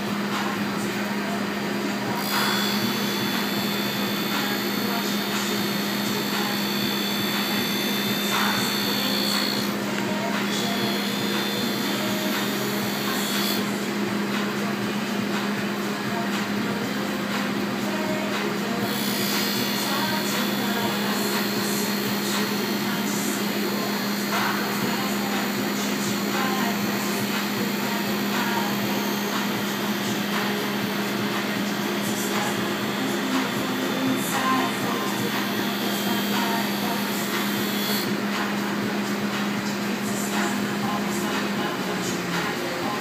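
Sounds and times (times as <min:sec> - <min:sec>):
grinding wheel whine: 0:00.0 - 0:15.8, 0:17.6 - 0:43.0
grinder motor hum: 0:00.0 - 0:43.0.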